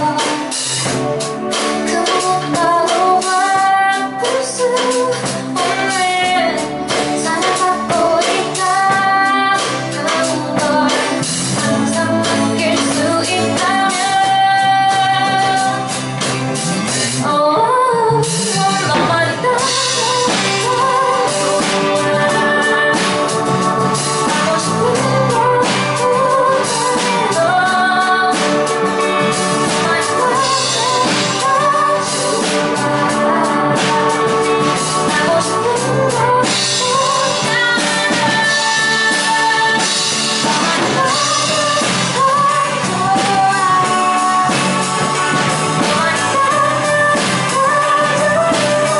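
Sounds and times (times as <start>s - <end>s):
live band playing: 0.0s - 48.9s
woman singing: 0.0s - 48.9s.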